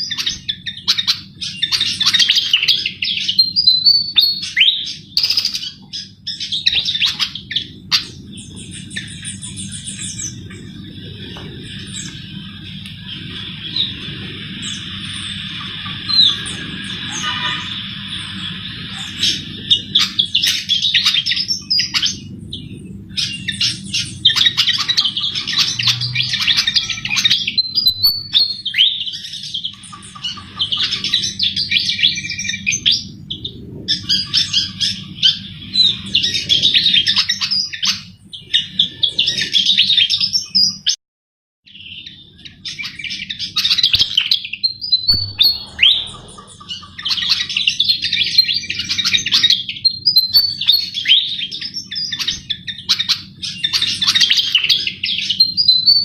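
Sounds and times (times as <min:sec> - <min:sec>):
steady low hum: 0:00.0 - 0:40.3, 0:42.2 - 0:50.7
flycatcher twittering song: 0:00.0 - 0:40.6, 0:41.7 - 0:56.0.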